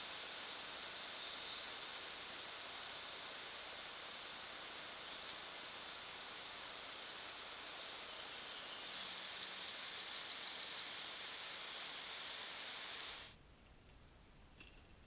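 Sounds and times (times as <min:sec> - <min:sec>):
faint forest ambience: 0:00.0 - 0:15.0
microphone hiss: 0:00.0 - 0:15.0.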